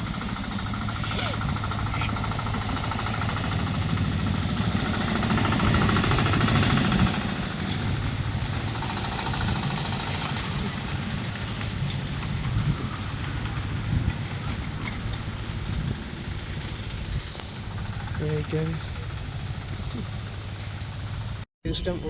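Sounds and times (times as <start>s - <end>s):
miniature train engine hum: 0.0s - 21.4s.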